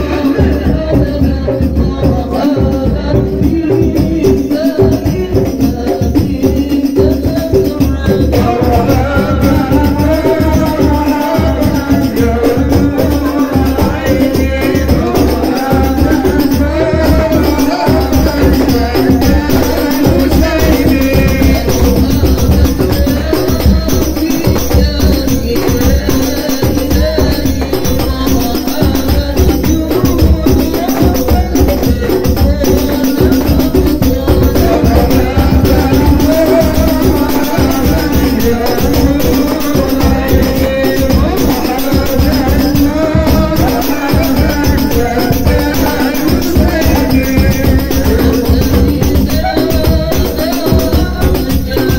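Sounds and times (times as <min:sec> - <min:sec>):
deep bass drum: 0:00.0 - 0:51.9
frame drums beaten fast: 0:00.0 - 0:51.9
men singing together: 0:00.0 - 0:51.9.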